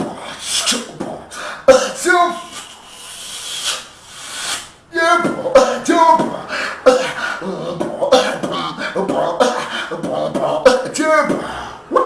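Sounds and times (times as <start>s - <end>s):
person beatboxing: 0.0s - 12.0s.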